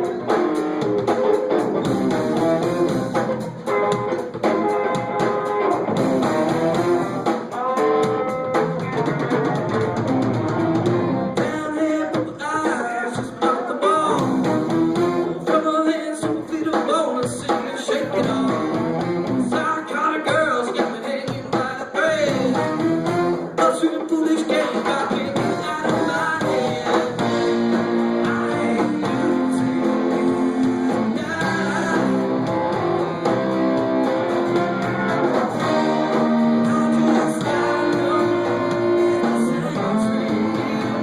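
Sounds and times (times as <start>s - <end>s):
electric guitar: 0.0s - 12.4s, 13.2s - 15.6s, 17.5s - 41.0s
live rock band playing: 0.0s - 41.0s.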